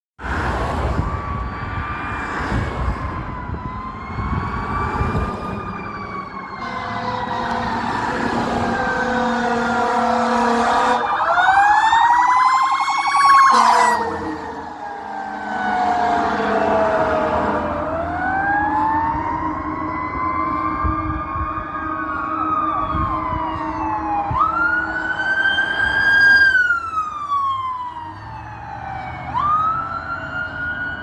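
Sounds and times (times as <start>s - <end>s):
fire sirens wailing: 0.2s - 31.0s
loud siren winding up and down: 0.3s - 31.0s.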